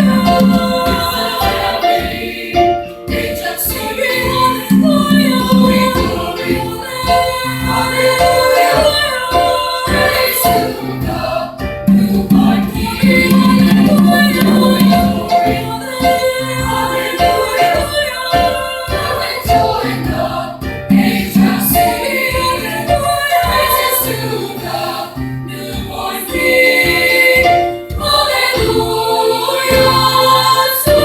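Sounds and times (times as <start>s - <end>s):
children's choir singing: 0.0s - 31.0s
music: 0.0s - 31.0s.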